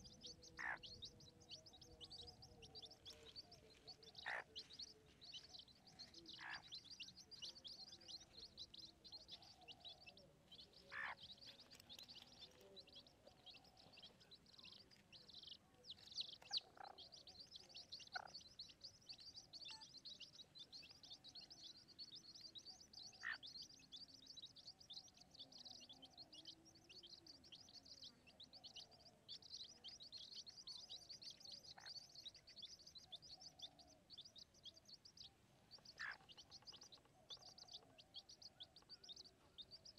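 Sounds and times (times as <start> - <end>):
rapid high-pitched bird chirping: 0.0 - 39.9.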